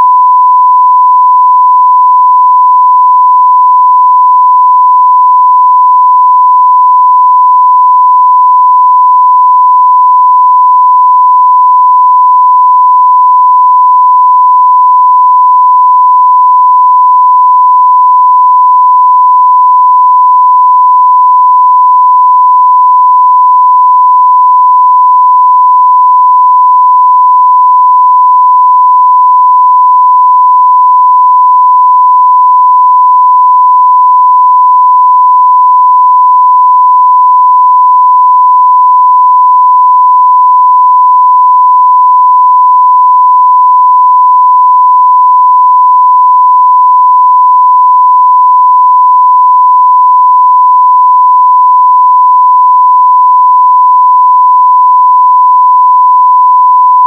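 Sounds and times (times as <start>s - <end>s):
sine wave test tone: 0.0s - 57.0s.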